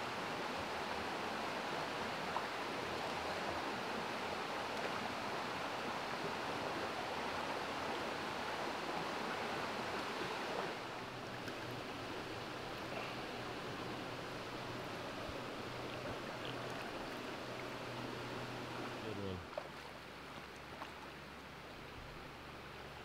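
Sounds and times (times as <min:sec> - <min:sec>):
stream rushing over stones: 0:00.0 - 0:23.0.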